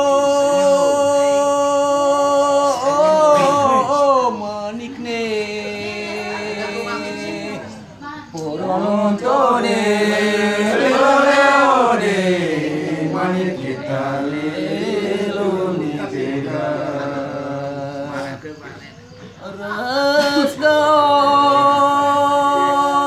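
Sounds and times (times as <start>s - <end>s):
men chanting song: 0.0s - 18.6s.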